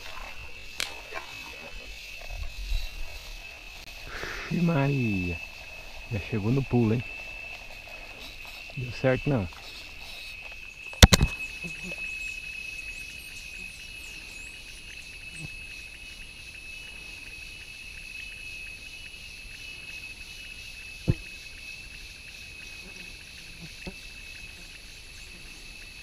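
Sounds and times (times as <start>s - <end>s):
insect drone: 0.0s - 26.0s.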